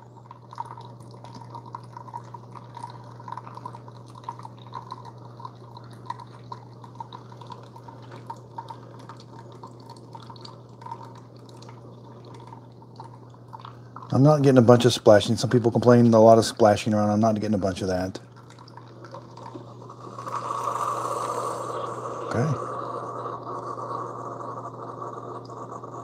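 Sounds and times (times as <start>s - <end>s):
coffee dripping into mug: 0.0s - 26.0s
coffee maker humming: 0.0s - 26.0s.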